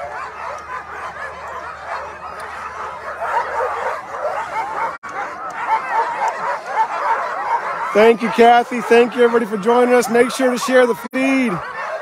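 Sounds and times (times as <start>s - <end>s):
dogs yipping barking and whining: 0.0s - 12.0s.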